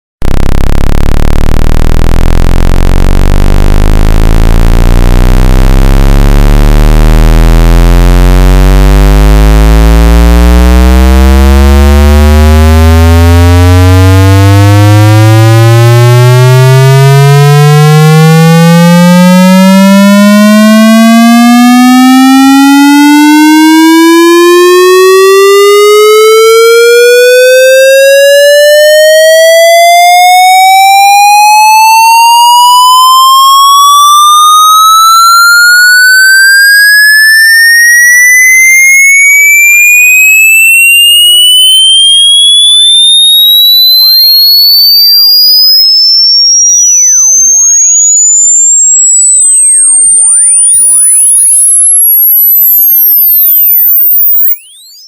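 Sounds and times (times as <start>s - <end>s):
electronic tone rising in pitch: 0.2s - 55.0s.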